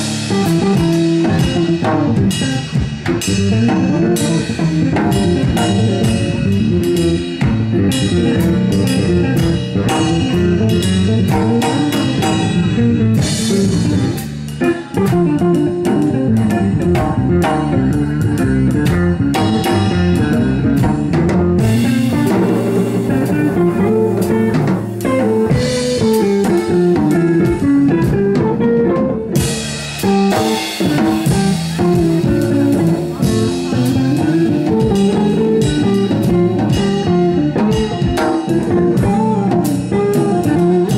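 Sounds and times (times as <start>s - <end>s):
bass guitar: 0.0s - 40.9s
drum kit with busy cymbals: 0.0s - 40.9s
electric guitar: 0.0s - 40.9s.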